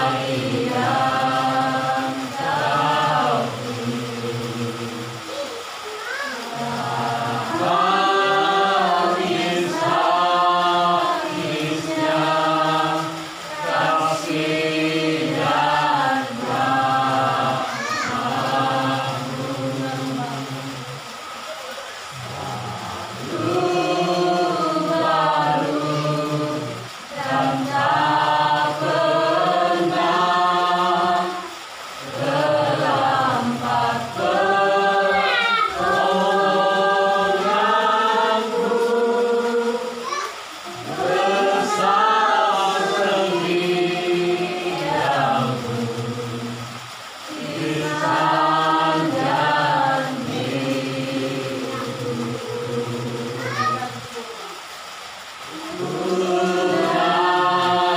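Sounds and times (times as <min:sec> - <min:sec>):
person singing wordlessly: 0:00.0 - 0:57.9.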